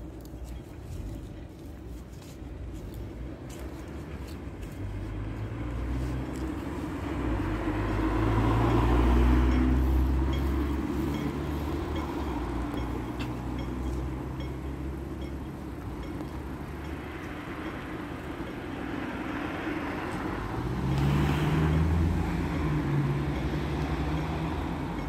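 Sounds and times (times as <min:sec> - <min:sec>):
vehicle passing on road: 0:02.7 - 0:25.0.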